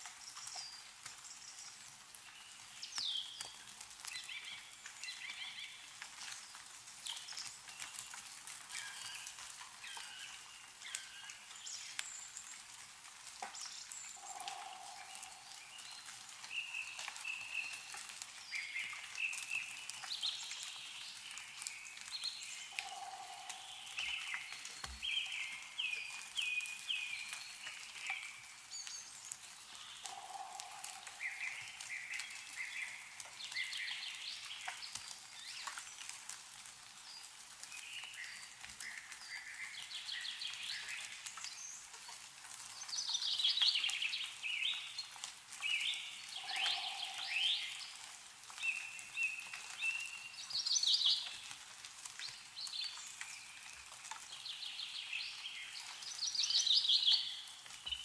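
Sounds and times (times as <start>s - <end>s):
meltwater dripping from trees: 0.0s - 58.0s
birds chirping and twittering: 0.2s - 12.8s, 13.4s - 36.1s, 37.1s - 51.6s, 52.2s - 58.0s.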